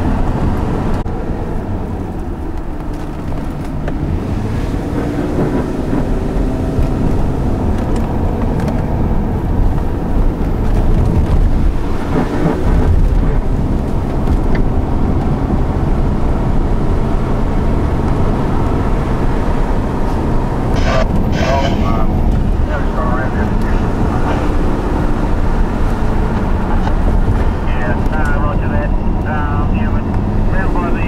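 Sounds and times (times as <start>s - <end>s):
car engine working hard: 0.0s - 31.0s
road noise rumble: 0.0s - 31.0s.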